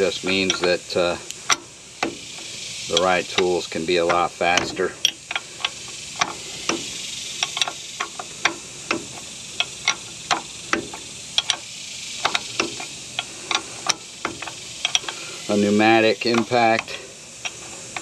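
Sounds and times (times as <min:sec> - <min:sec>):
ratchet wrench clicking: 0:00.0 - 0:18.0
steady hiss: 0:00.0 - 0:18.0.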